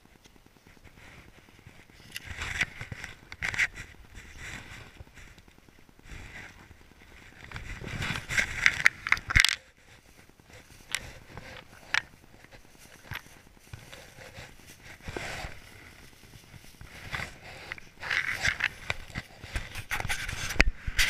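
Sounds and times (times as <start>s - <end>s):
clothing and fabric bag rustling: 0.6s - 20.6s.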